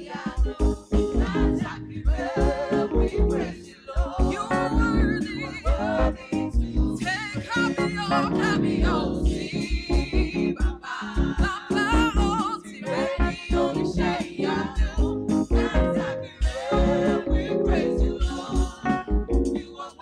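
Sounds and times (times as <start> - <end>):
gospel singing with band: 0.0 - 20.0
kick drum beat: 0.4 - 7.3, 8.8 - 12.5, 13.2 - 14.2, 14.8 - 19.5.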